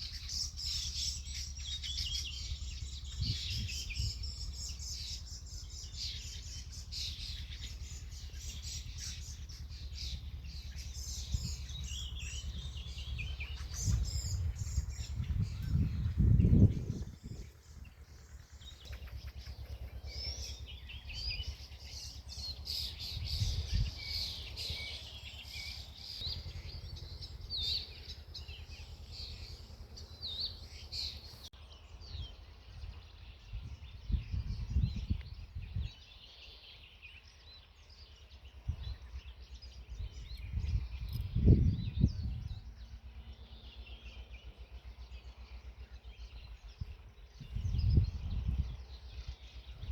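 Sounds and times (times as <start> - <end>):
low rumble: 0.0 - 36.0, 38.6 - 49.9
small birds chirping: 0.0 - 49.9.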